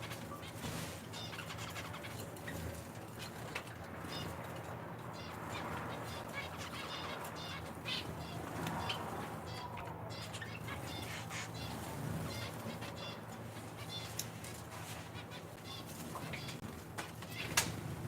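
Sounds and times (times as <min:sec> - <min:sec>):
finches chirping: 0:00.0 - 0:16.6.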